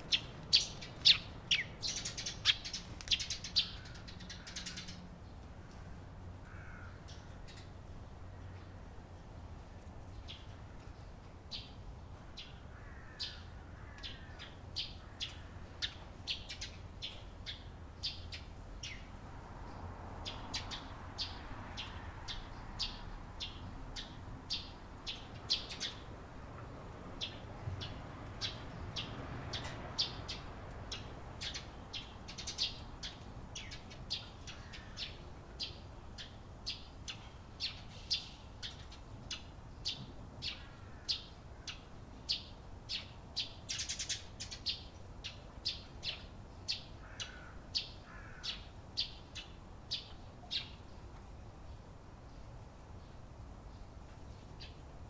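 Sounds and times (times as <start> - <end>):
sparrows chirping: 0.0 - 5.8, 10.1 - 26.2, 27.1 - 54.9.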